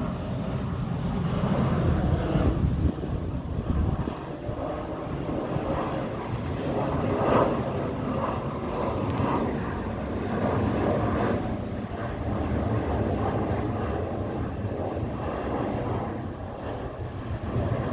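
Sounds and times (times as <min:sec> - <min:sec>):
jet engine rushing: 0:00.0 - 0:17.9.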